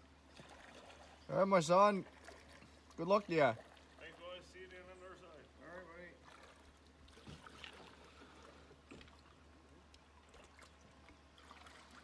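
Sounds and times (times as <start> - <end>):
paddle dipping into water: 0.2 - 4.4, 6.2 - 12.0.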